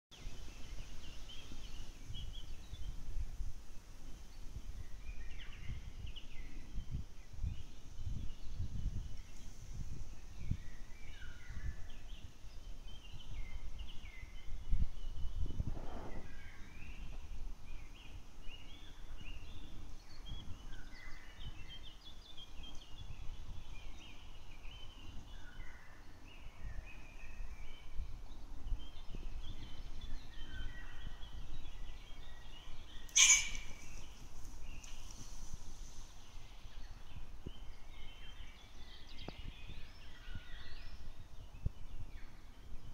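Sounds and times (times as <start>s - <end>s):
small birds chirping: 0.1s - 42.9s
wind rumble on microphone: 0.1s - 42.9s.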